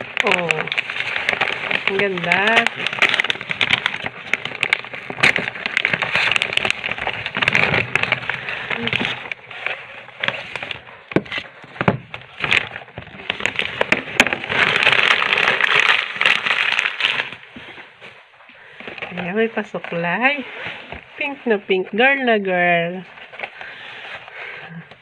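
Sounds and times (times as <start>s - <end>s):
wrapping paper crinkling and tearing: 0.0s - 22.2s, 22.9s - 25.0s.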